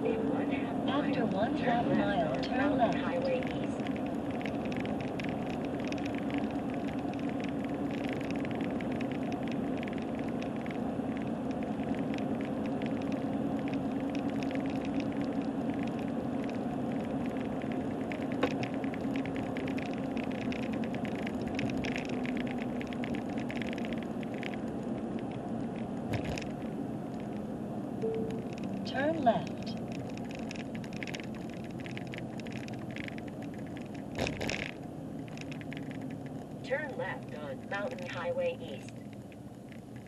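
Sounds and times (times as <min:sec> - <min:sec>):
car engine and tyres droning: 0:00.0 - 0:40.0
camera rattling: 0:02.0 - 0:27.5, 0:28.2 - 0:40.0.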